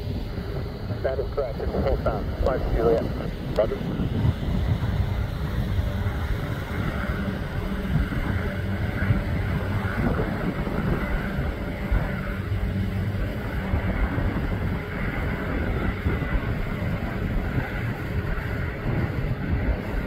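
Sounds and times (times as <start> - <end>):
distant helicopters passing: 0.0 - 20.0.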